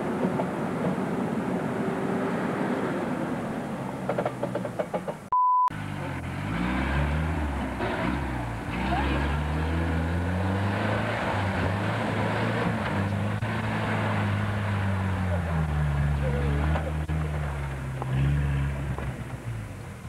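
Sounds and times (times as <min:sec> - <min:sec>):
off-road vehicle engine under load: 0:00.0 - 0:20.0.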